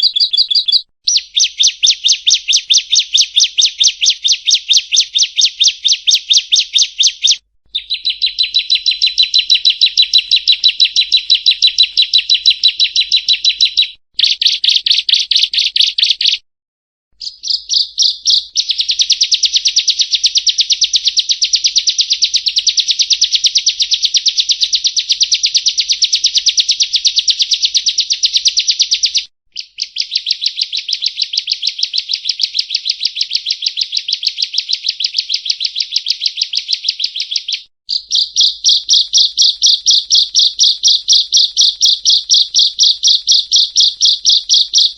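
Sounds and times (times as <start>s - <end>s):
small bird singing rapid notes: 0.0s - 16.4s, 17.2s - 44.9s.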